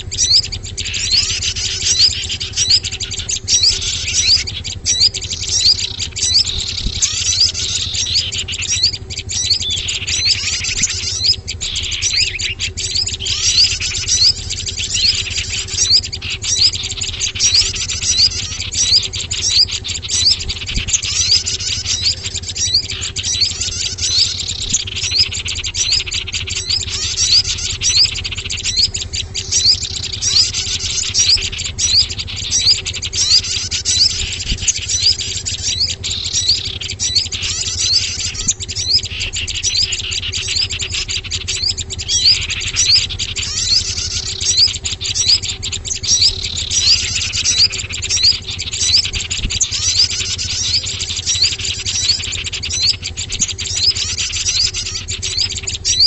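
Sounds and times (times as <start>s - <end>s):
low hum: 0.0s - 56.0s
songbirds chirping: 0.0s - 56.0s.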